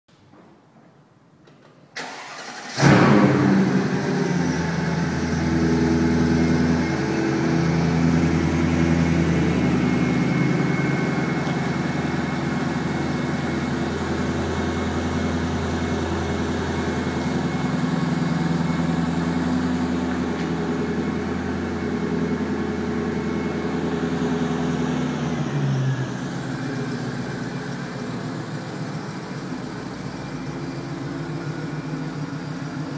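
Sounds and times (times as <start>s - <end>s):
car engine starting and idling: 1.9s - 32.9s.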